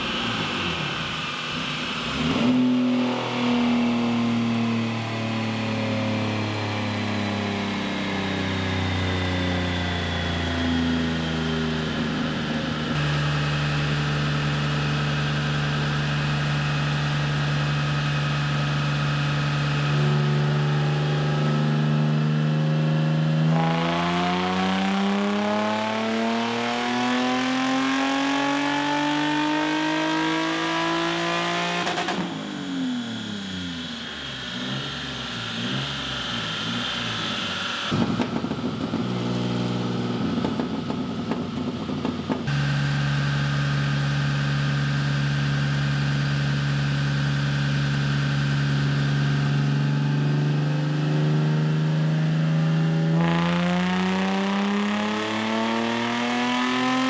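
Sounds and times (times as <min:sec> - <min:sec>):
car engine revving on dyno: 0:00.0 - 0:57.0.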